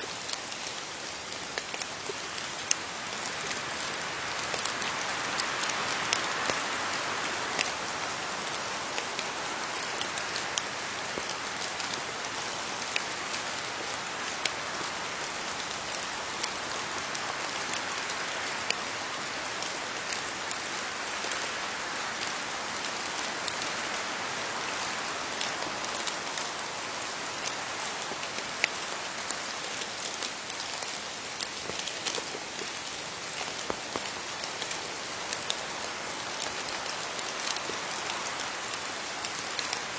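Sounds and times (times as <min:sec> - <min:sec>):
rain pattering on leaves: 0:00.0 - 0:39.9
sharp raindrops hitting close by: 0:00.0 - 0:39.9.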